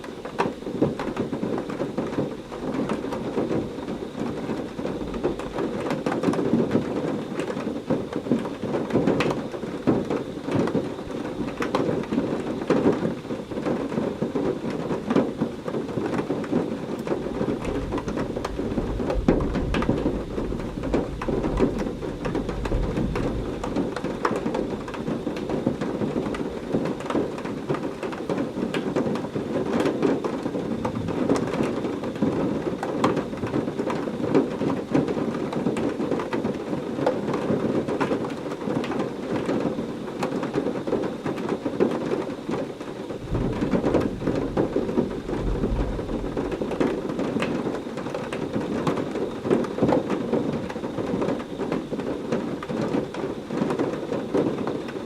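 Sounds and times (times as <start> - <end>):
heavy rain falling: 0.0 - 55.0
low rumble of thunder: 0.7 - 35.1, 42.4 - 55.0.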